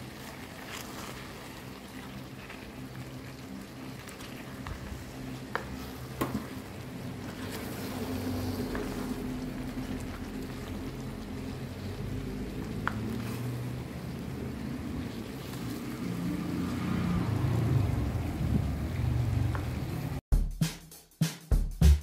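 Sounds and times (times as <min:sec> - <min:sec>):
stew bubbling in a pan: 0:00.0 - 0:20.2.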